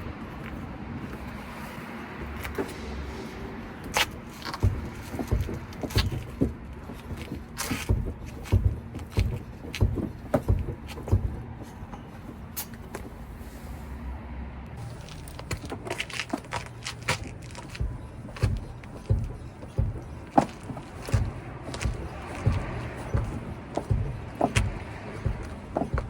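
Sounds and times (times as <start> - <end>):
suspension clunking over bumps: 0.0 - 13.7, 14.7 - 26.0
low engine rumble: 0.0 - 26.0.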